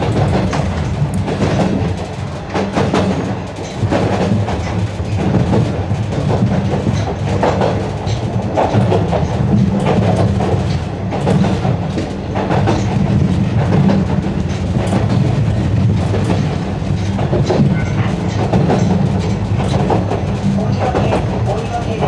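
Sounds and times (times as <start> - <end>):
train rumbling: 0.0 - 22.0
wheels clicking over track: 0.0 - 22.0.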